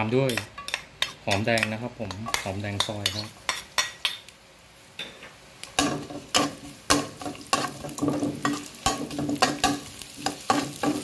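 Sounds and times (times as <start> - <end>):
faint frying sizzle: 0.0 - 11.0
metal spatula striking a wok: 0.2 - 4.3, 5.8 - 11.0.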